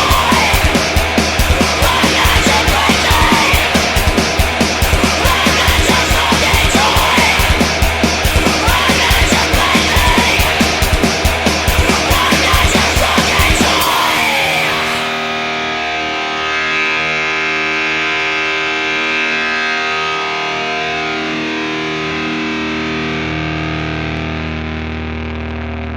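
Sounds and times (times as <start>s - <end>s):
distorted electric guitar chords: 0.0s - 25.9s.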